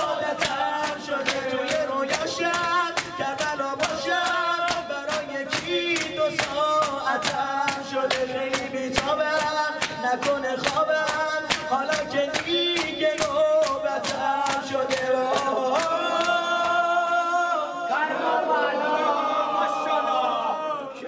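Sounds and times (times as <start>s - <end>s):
rhythmic hand slaps: 0.0s - 17.6s
man chanting into microphone: 0.0s - 18.1s.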